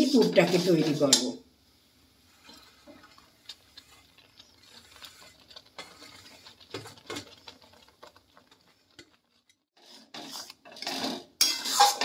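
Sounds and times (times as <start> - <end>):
metal spatula scraping pan: 2.3 - 12.0.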